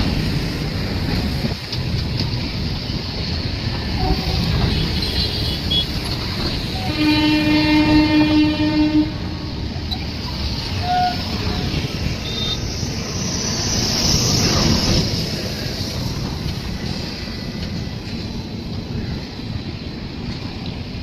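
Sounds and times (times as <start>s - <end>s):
train rumbling and rushing: 0.0s - 21.0s.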